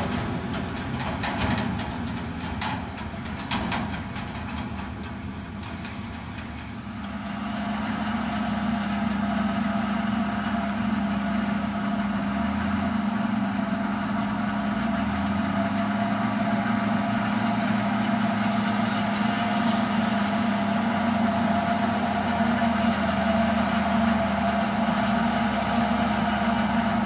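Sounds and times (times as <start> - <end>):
harvester machine drone: 0.0 - 27.0.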